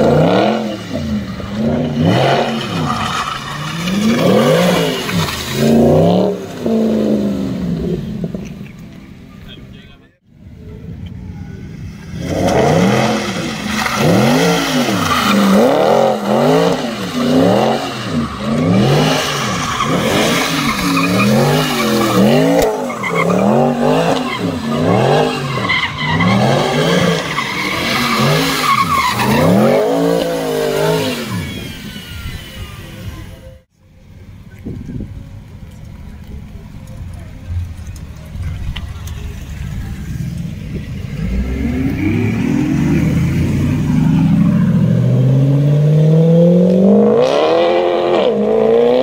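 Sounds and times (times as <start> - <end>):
car engine revving hard: 0.0 - 8.4, 12.1 - 33.4, 39.4 - 49.0.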